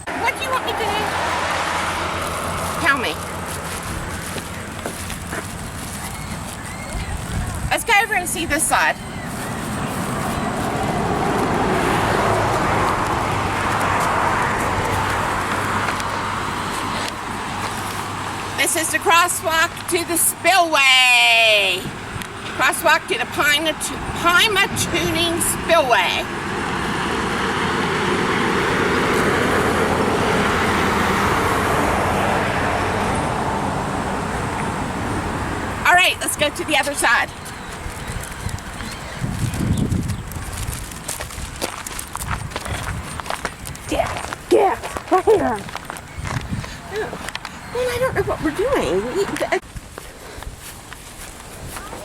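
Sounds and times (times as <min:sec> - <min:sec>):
vehicle passing by: 0:00.0 - 0:49.6.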